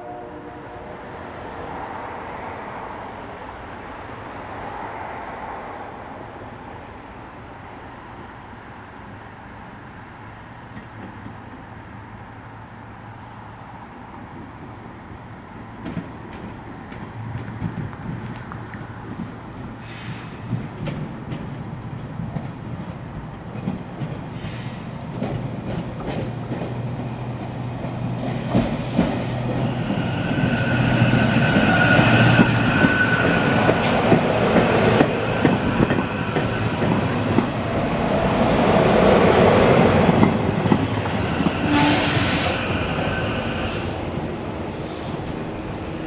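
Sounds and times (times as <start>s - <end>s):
train rail noise: 0.0s - 46.0s.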